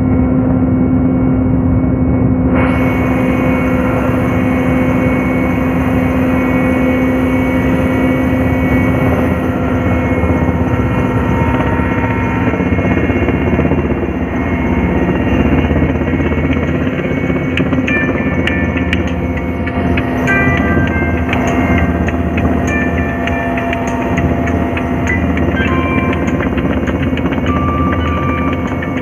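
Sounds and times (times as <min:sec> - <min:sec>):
aircraft engine and rotor hum: 0:00.0 - 0:29.0.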